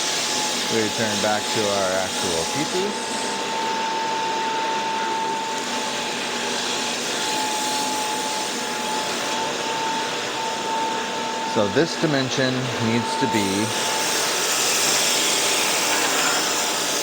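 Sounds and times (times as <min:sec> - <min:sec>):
electric machine hissing and whining: 0:00.0 - 0:17.0.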